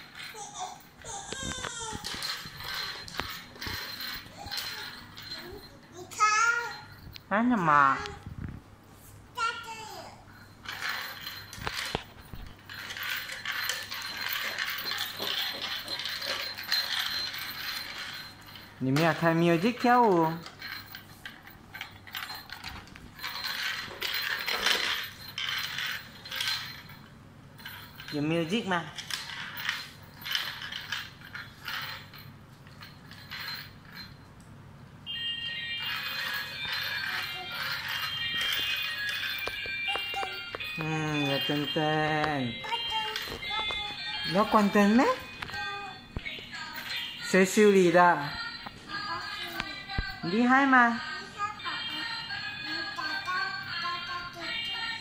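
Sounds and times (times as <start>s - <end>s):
toy ball rattling on tiles: 0.0s - 6.0s, 10.6s - 34.2s, 35.8s - 54.9s.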